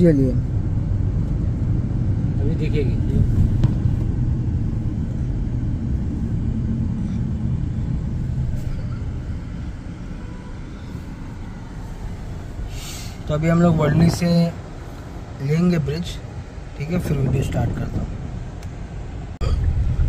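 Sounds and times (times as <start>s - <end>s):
car interior road rumble: 0.0s - 20.0s.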